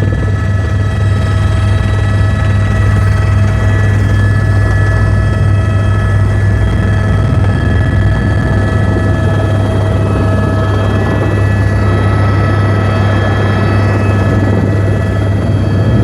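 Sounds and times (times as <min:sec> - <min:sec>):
helicopter rotor throb: 0:00.0 - 0:16.0
turbine whine: 0:00.0 - 0:16.0.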